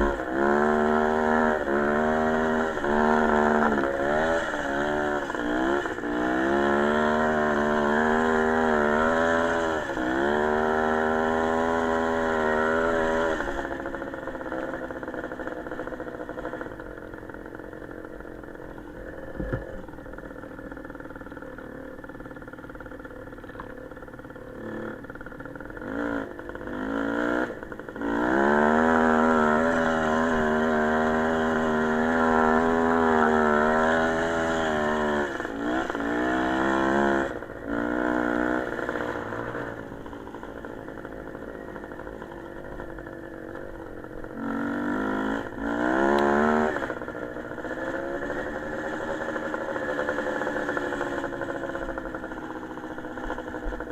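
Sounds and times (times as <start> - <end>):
small motorcycle engine revving: 0.0 - 53.9.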